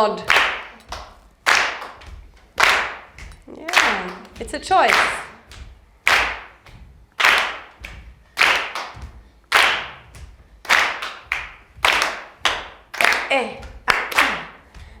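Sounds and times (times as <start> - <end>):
group clapping a rhythm: 0.0 - 15.0.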